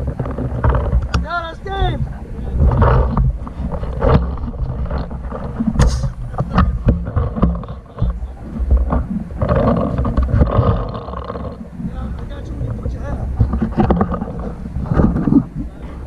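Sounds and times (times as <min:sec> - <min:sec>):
sharp pops and clicks: 0:00.0 - 0:15.7
microphone handling rumble: 0:00.0 - 0:16.0
wind buffeting microphone: 0:00.0 - 0:16.0.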